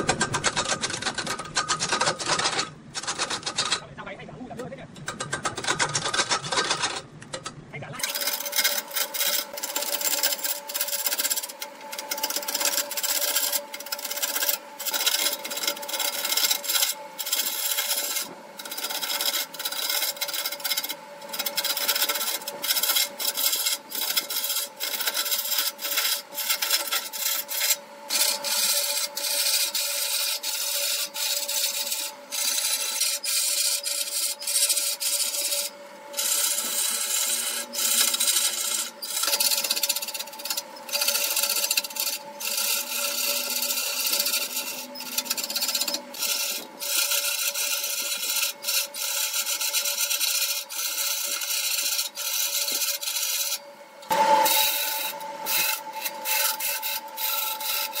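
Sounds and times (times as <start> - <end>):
lathe humming: 0.0 - 58.0
rag scraping spinning wood: 0.0 - 58.0.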